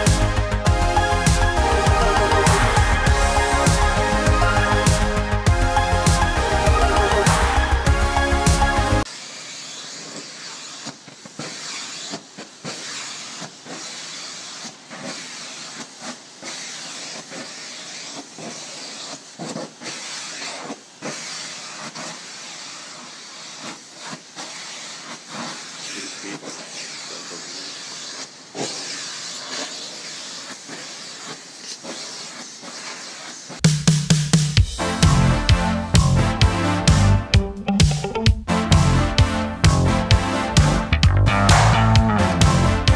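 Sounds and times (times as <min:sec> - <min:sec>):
vacuum cleaner suction hiss: 0:00.0 - 0:36.2.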